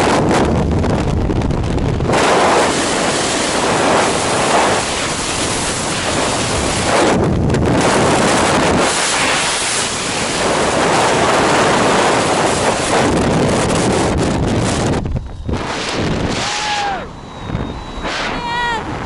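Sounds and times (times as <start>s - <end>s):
freefall wind rushing over microphone: 0.0s - 19.0s.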